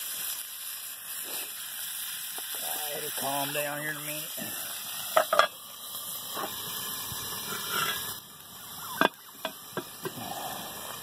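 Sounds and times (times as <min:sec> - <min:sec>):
sausage frying in a skillet: 0:00.0 - 0:11.0.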